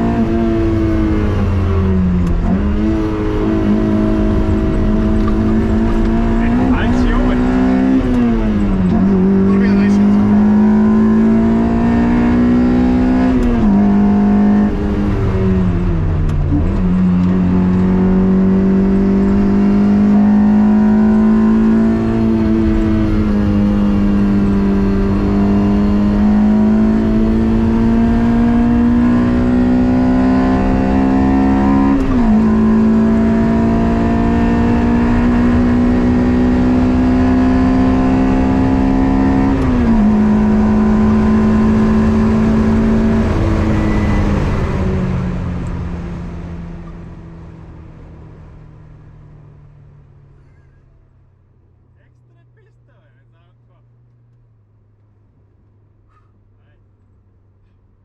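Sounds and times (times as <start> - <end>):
car engine revving at high revs: 0.0 - 47.7.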